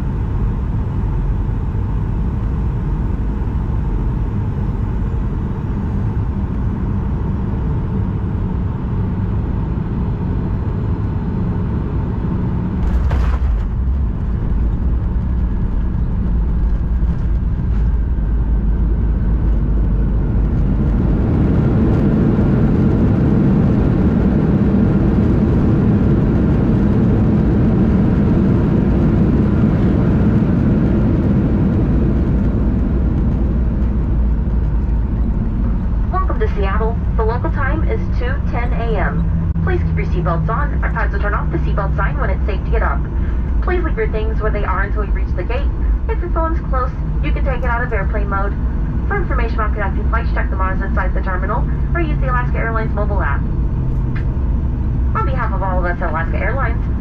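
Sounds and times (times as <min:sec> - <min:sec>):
airplane cabin noise: 0:00.0 - 0:57.0
engines reverse thrust rumble: 0:00.0 - 0:57.0.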